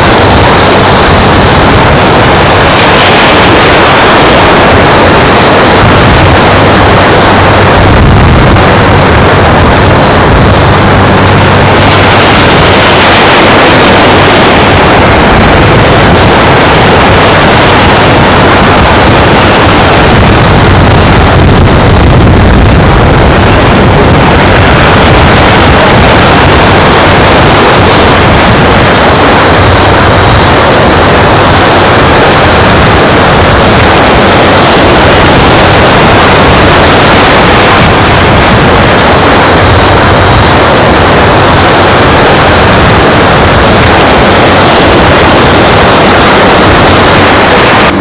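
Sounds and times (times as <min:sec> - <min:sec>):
waves on beach: 0:00.0 - 0:48.0
wind blowing on microphone: 0:00.0 - 0:48.0.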